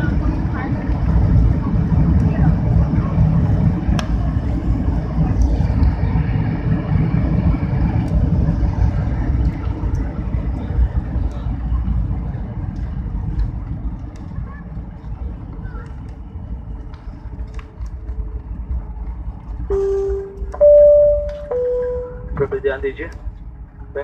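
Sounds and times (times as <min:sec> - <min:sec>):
aircraft cabin rumble on landing: 0:00.0 - 0:24.0.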